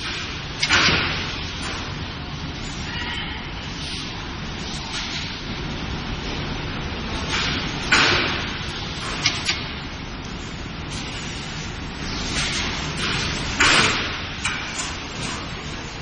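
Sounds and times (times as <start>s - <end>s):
packing machinery running: 0.0s - 16.0s.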